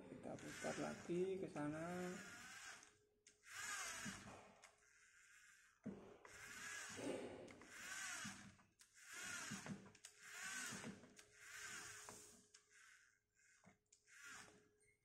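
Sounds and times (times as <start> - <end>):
servo motors whirring: 0.4 - 5.7, 6.3 - 14.6.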